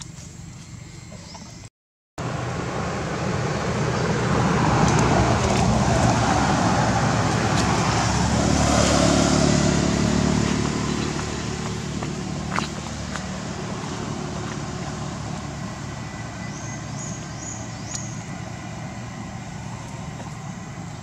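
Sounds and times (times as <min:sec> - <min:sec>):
vehicle passing on road: 0:02.2 - 0:21.0.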